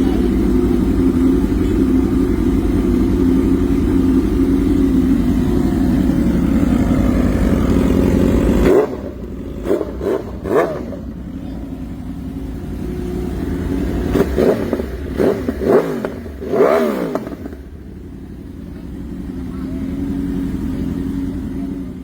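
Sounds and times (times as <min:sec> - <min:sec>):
motorcycle engine idling: 0:00.0 - 0:22.0
motorcycle throttle blips: 0:00.0 - 0:22.0.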